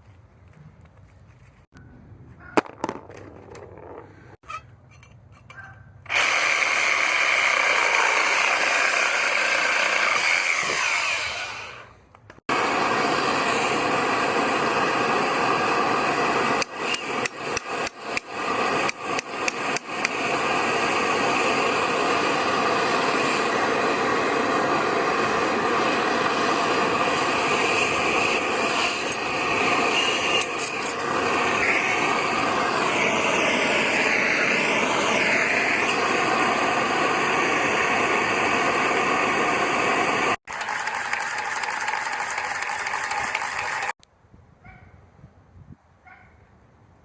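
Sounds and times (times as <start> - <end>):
handheld power tool running: 6.1 - 44.0.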